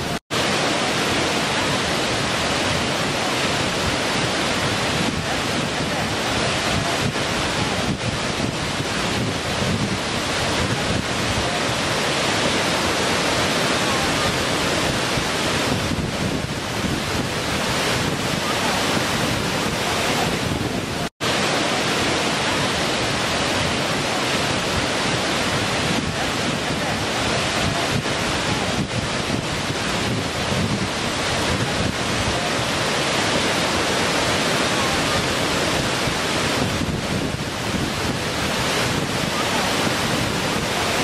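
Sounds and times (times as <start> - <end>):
waterfall rushing over rocks: 0.0 - 41.0.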